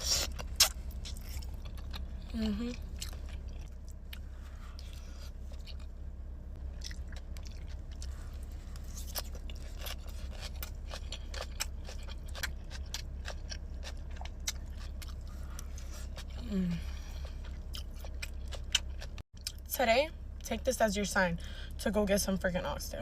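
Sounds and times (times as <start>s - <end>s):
person chewing food: 0.0s - 19.6s
steady low hum: 0.0s - 23.0s.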